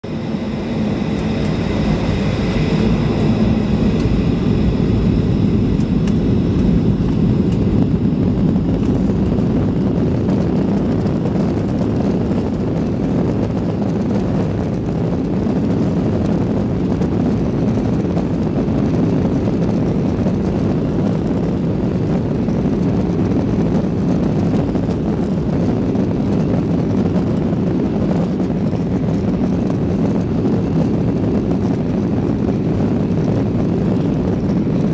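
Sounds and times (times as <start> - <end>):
high engine whine: 0.0 - 25.5, 28.3 - 34.9
low rumble of engines and airflow: 0.0 - 34.9.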